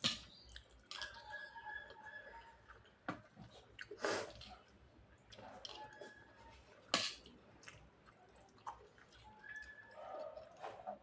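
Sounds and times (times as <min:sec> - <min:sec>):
wet squishing and chewing: 0:00.0 - 0:11.0.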